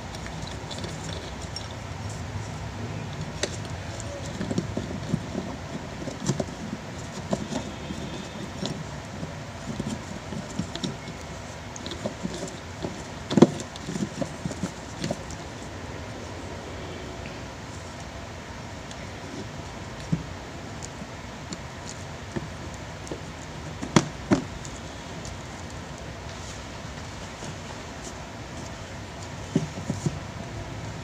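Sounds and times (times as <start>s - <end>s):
clicks and knocks of fan motor parts: 0.0s - 15.7s, 17.7s - 31.0s.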